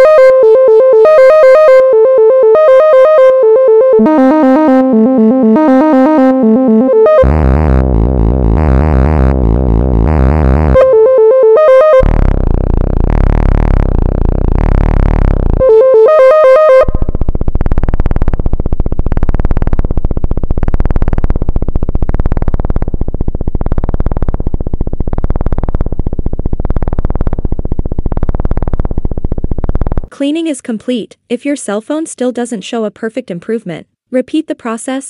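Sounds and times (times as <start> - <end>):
synthesizer-like bass pedal tones: 0.0 - 30.1.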